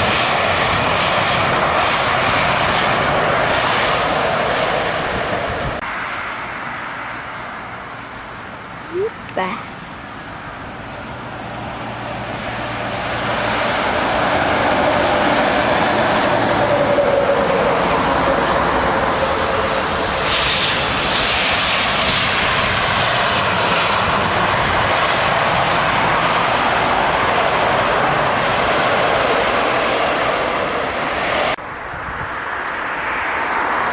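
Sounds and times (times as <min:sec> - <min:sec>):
jet engine roar: 0:00.0 - 0:33.9
jet engine whine: 0:00.0 - 0:33.9.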